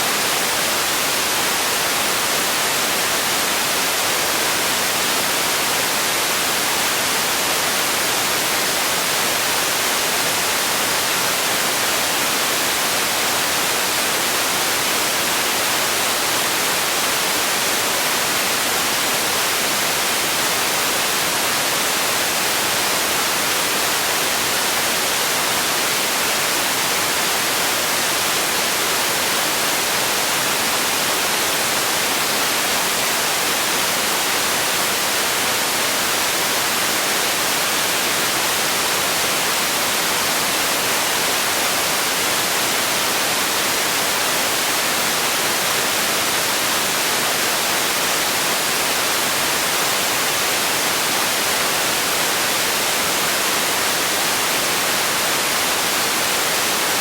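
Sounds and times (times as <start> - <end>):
steady white noise hiss: 0.0 - 57.0.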